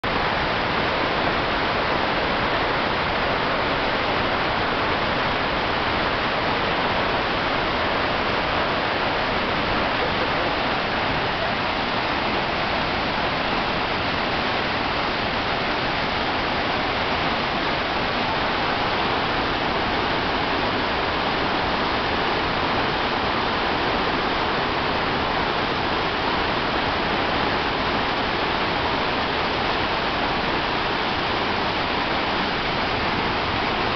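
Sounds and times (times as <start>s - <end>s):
rushing white water: 0.0s - 33.9s.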